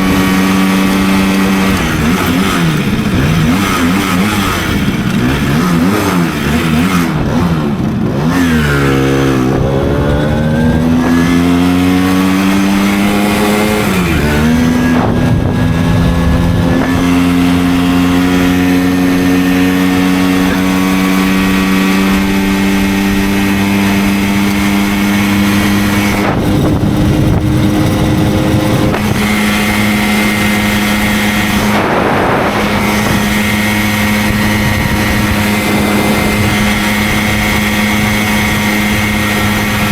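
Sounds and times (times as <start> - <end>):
moped two-stroke engine revving: 0.0 - 39.9.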